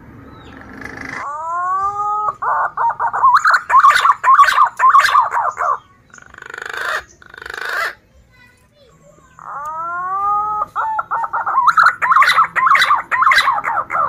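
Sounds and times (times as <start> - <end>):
pigeon whistling and warbling: 0.4 - 8.0, 9.4 - 14.0.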